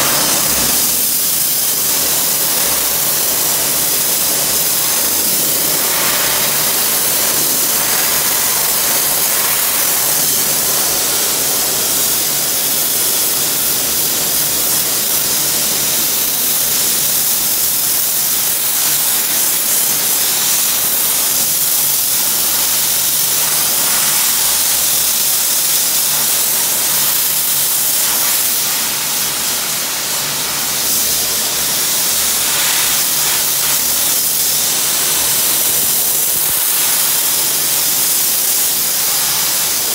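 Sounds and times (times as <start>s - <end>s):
sandblasting hiss: 0.0s - 39.9s.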